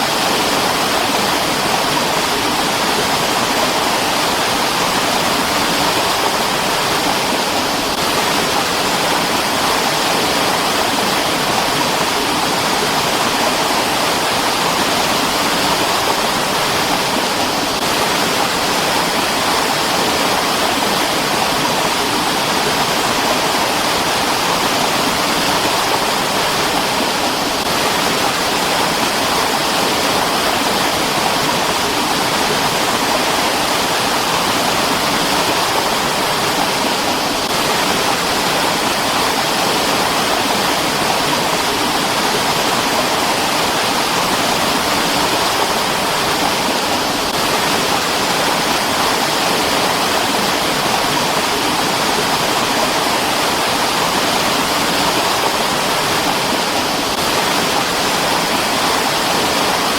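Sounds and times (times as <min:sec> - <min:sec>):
water stream running: 0:00.0 - 0:59.9.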